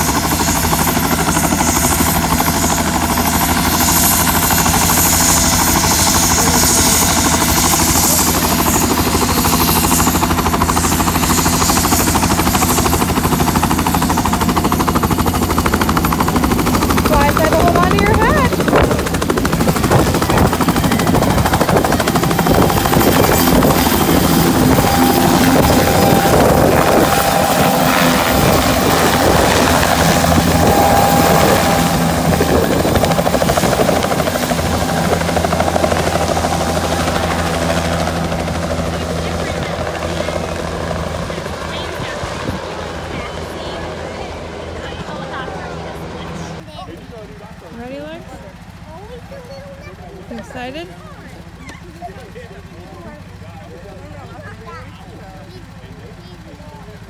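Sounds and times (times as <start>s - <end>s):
helicopter engine drone: 0.0s - 57.0s
helicopter rotor chopping: 0.0s - 57.0s.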